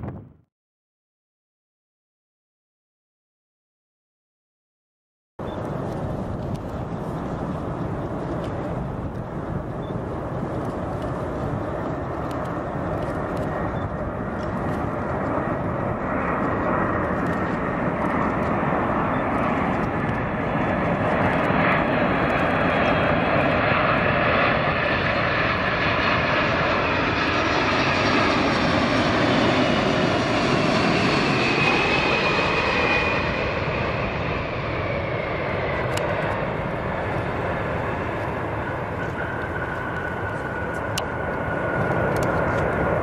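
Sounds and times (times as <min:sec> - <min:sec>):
jet engines roaring overhead: 0:05.4 - 0:43.0.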